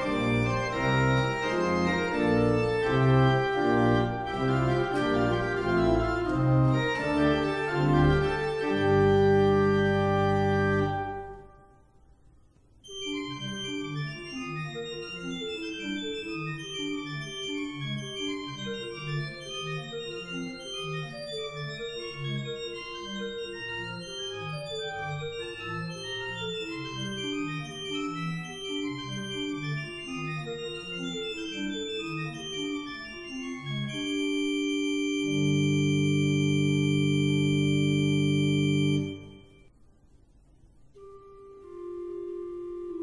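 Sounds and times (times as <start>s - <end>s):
pipe organ playing: 0.0s - 11.7s, 12.8s - 39.7s, 40.9s - 43.0s.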